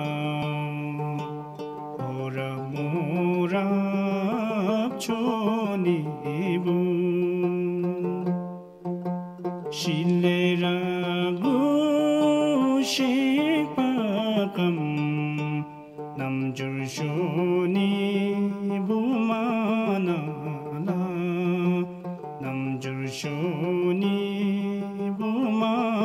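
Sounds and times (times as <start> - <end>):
song with held vibrato notes: 0.0 - 26.0.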